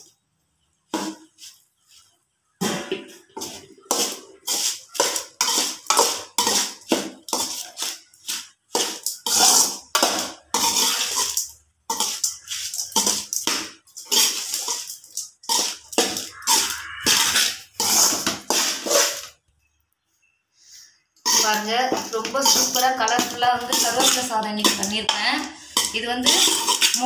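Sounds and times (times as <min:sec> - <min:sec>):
steel spoon scraping metal pan: 0:03.4 - 0:19.3, 0:21.2 - 0:27.0.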